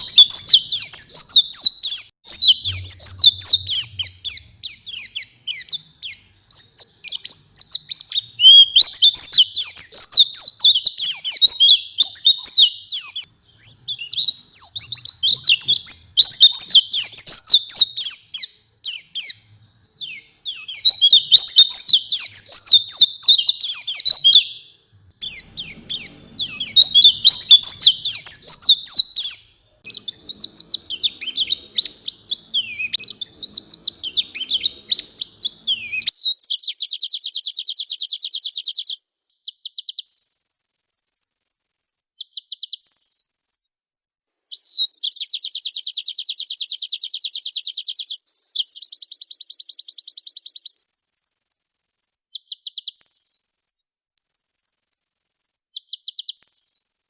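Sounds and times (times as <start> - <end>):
bird singing high twittering song: 0.0 - 43.7, 44.5 - 57.0.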